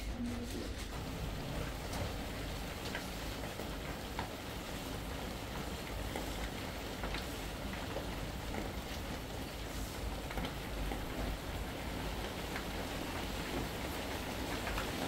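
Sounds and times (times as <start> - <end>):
steady rain hiss: 0.4 - 15.0.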